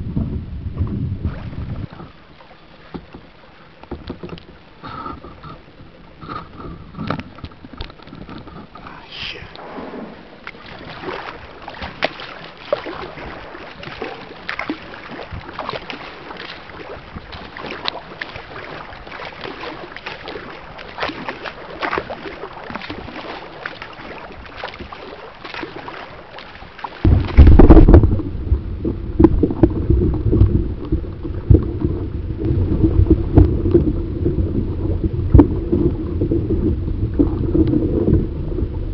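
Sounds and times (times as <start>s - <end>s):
ship engine rumble and hum: 0.0s - 38.9s
paddle splashes and drips: 1.2s - 38.9s.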